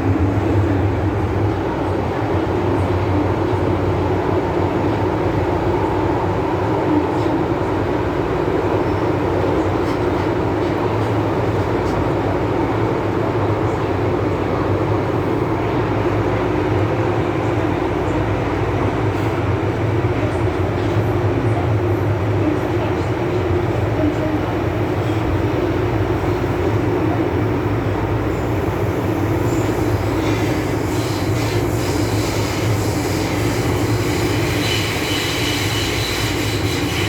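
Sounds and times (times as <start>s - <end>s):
metro train rumble and hum: 0.0s - 37.0s.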